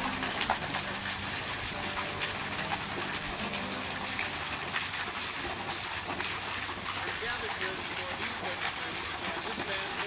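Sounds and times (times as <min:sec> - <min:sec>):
outdoor background wash: 0:00.0 - 0:10.0.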